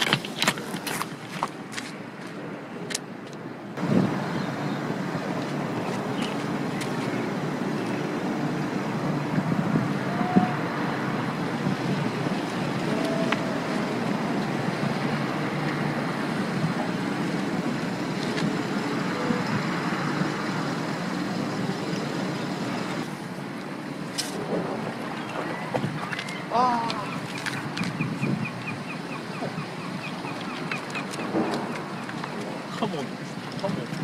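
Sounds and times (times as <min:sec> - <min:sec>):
rushing outdoor background noise: 0:00.0 - 0:34.0.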